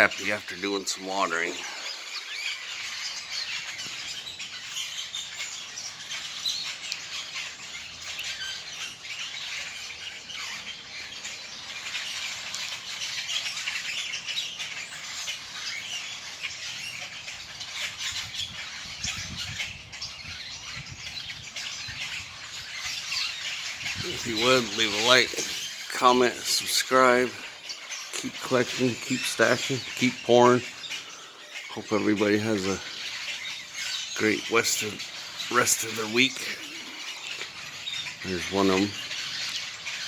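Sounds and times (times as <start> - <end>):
birds chirping and squawking: 0.0 - 40.0.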